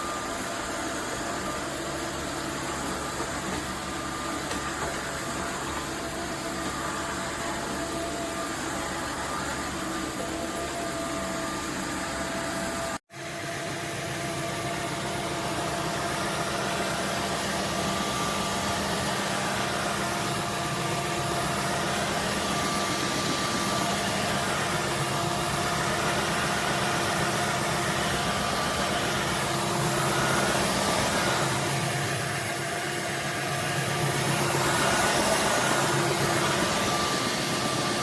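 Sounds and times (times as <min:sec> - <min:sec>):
wet-dry vacuum running: 0:00.0 - 0:38.0.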